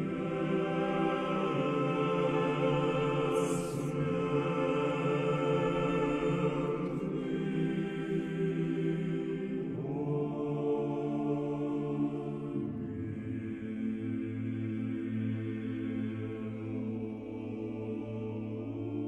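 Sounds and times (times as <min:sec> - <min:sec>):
choir singing chant: 0:00.0 - 0:19.0.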